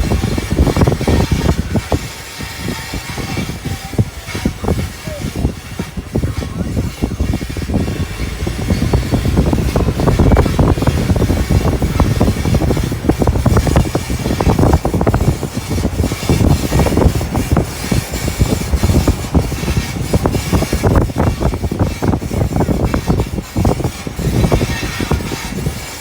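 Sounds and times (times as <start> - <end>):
low road rumble: 0.0 - 26.0
van clattering and rattling: 0.0 - 26.0.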